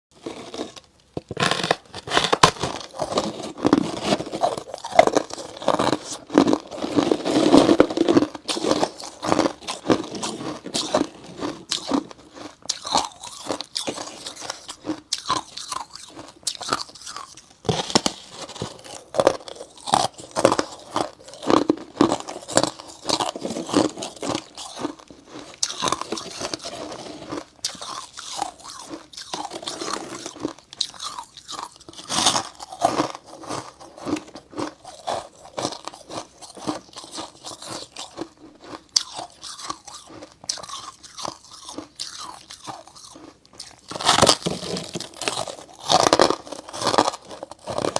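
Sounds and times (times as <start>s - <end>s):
chewing icy crunches: 0.2s - 47.9s.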